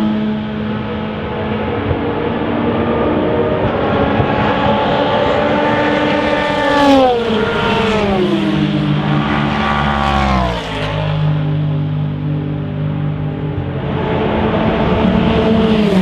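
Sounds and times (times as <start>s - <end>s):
race car engine: 0.0s - 16.0s.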